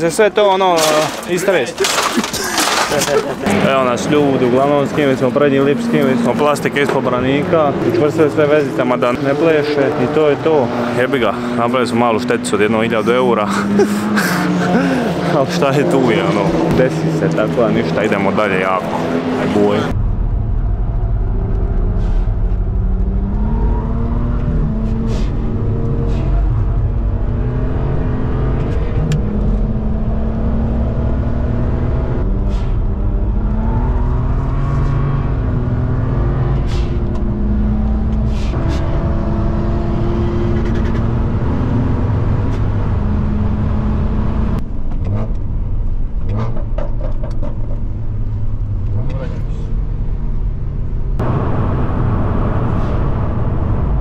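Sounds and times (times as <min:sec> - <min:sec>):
car engine revving through gears: 0:01.8 - 0:20.0, 0:21.2 - 0:49.9, 0:51.2 - 0:54.0.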